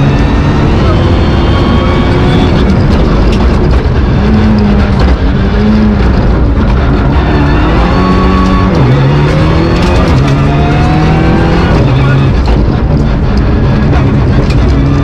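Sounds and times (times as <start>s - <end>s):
car engine revving through gears: 0.0s - 15.0s.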